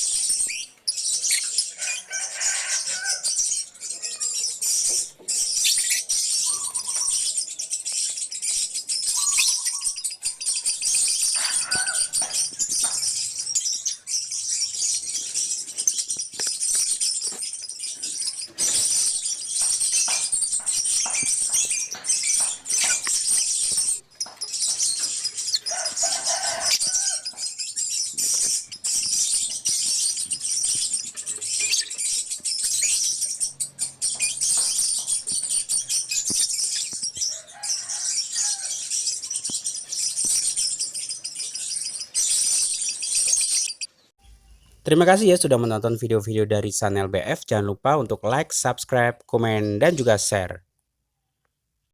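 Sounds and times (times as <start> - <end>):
lovebirds chirping and chattering: 0.0 - 50.7.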